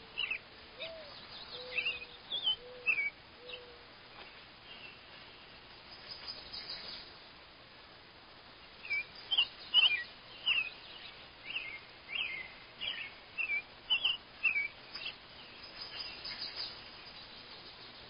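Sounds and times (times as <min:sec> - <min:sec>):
songbird calling: 0:00.0 - 0:07.2, 0:08.6 - 0:18.0.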